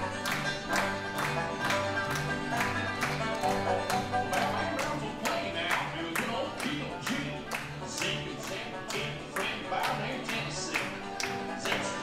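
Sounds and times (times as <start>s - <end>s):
country and bluegrass music: 0.0s - 12.0s.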